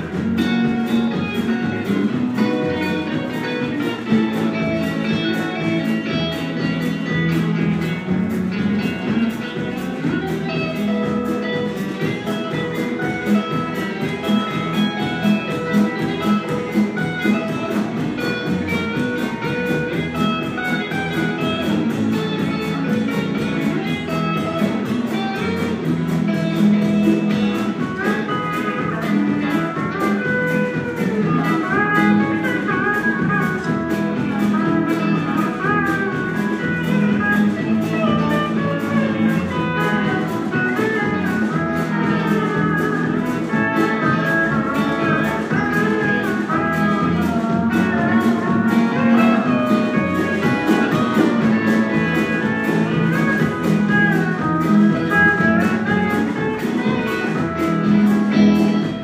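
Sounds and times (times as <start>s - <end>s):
country band playing: 0.0s - 59.0s
steel guitar sliding notes: 0.0s - 59.0s.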